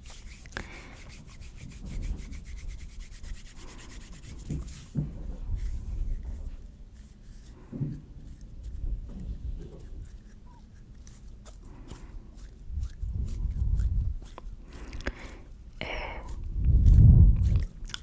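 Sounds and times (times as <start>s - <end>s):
hands rubbing together: 0.0s - 18.0s.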